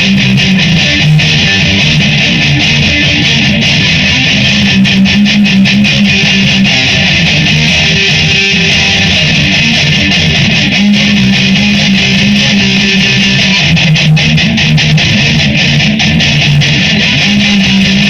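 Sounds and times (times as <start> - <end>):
electric guitar strumming: 0.0 - 18.0.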